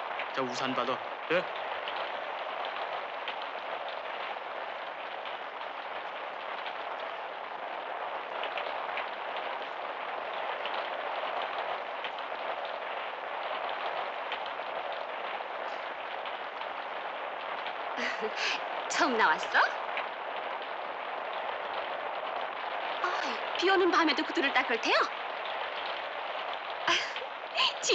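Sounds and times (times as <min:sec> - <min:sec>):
raindrop ticks: 0:00.0 - 0:27.9
steady rain falling: 0:00.0 - 0:27.9.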